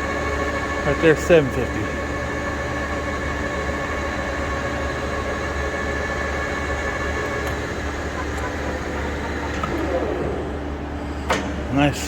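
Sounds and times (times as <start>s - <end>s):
lathe running with whine: 0.0s - 12.0s.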